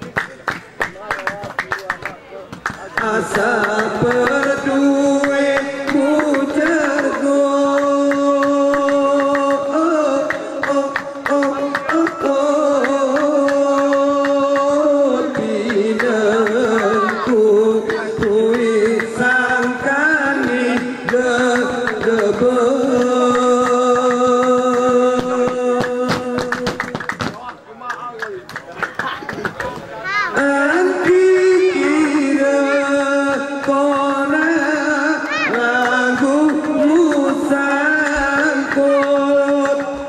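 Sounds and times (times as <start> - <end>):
rhythmic hand claps: 0.0 - 40.0
men singing held notes: 2.7 - 26.9, 30.3 - 40.0.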